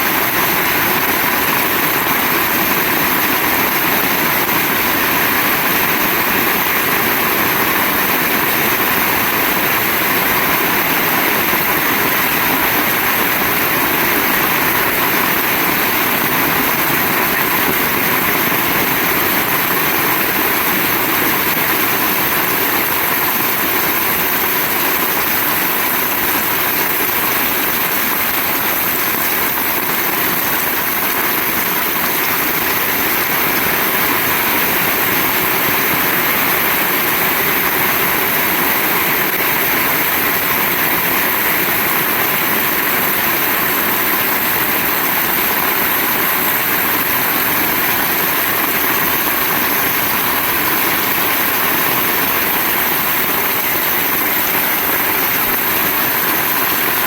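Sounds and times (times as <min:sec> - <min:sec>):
very heavy rain pouring: 0:00.0 - 0:57.0.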